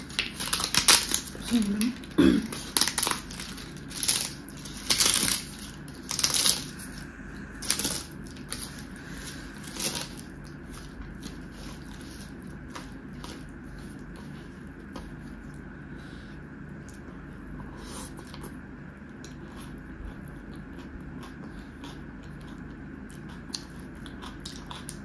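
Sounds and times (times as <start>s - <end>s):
papadum cracking and crunching: 0.0s - 15.7s, 18.2s - 25.0s.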